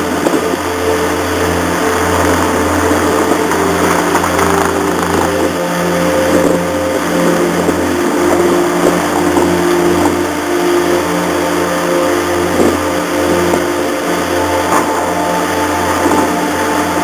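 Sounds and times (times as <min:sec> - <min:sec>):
broad rushing noise: 0:00.0 - 0:17.0
ferry engines droning: 0:00.0 - 0:17.0.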